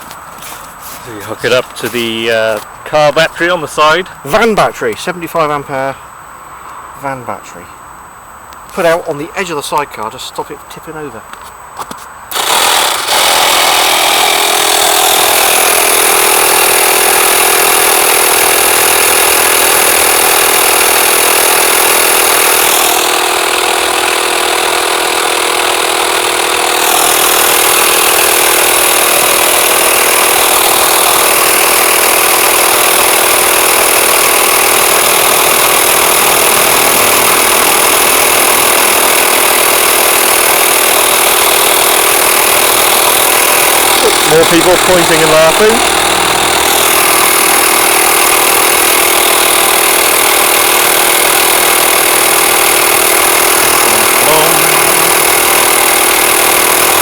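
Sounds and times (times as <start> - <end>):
tyre compressor running: 0.0 - 4.4, 12.3 - 57.0.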